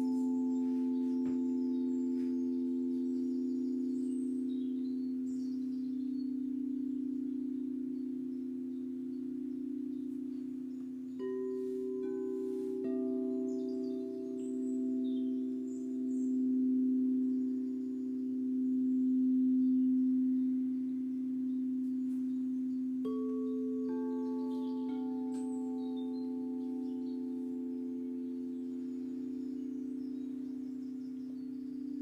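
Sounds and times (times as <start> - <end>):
singing bowls ringing: 0.0 - 32.0.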